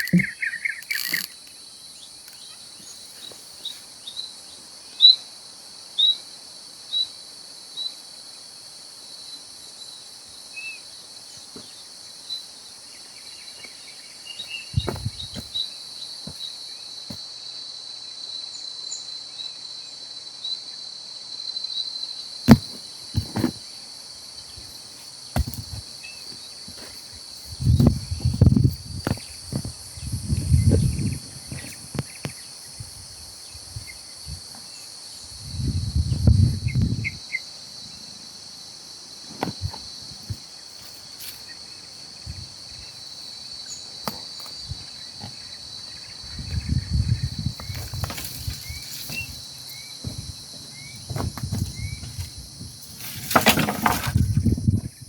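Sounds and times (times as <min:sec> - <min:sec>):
cricket chirps: 0:00.0 - 0:55.0
insects droning: 0:00.0 - 0:55.0.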